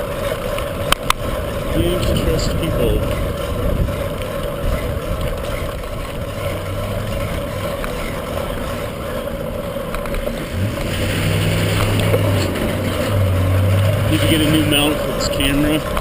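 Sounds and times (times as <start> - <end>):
low engine-like hum: 0.0 - 16.0
road noise: 0.0 - 16.0
wind rumble: 0.0 - 16.0.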